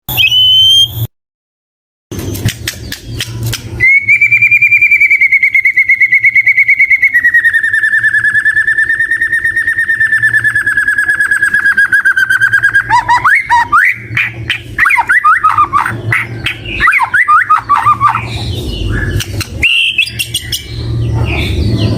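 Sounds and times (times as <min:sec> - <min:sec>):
songbird trilling and whistling: 0:00.1 - 0:01.1, 0:02.8 - 0:21.9.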